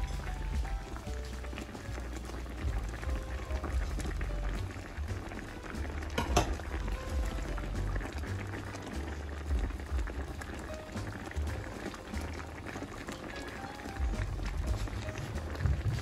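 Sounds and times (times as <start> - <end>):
background music: 0.0 - 16.0
pot of food bubbling: 0.0 - 16.0.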